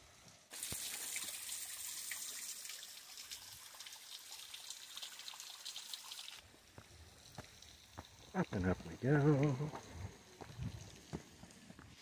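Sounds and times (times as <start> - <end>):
waterfall trickling over rock: 0.0 - 12.0.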